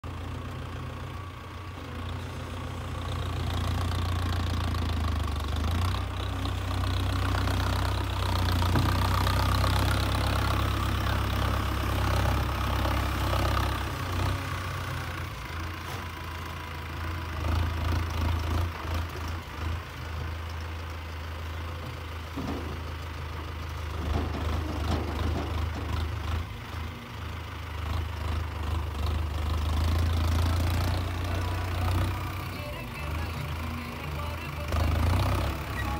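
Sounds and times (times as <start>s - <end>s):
tractor diesel engine: 0.0s - 35.9s.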